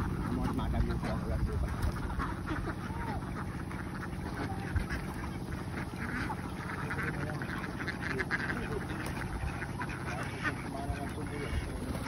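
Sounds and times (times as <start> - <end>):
flock of ducks quacking: 0.0 - 12.0.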